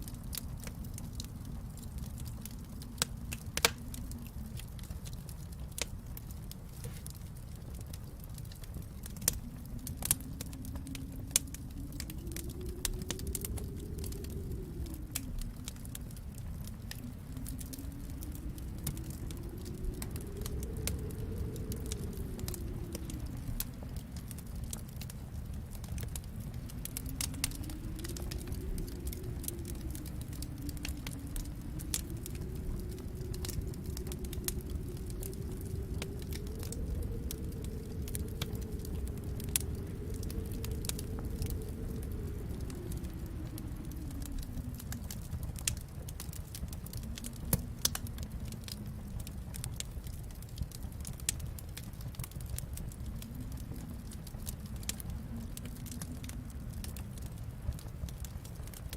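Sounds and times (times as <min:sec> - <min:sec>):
storm wind rushing: 0:00.0 - 0:58.9
wood fire crackling and popping: 0:00.0 - 0:58.9.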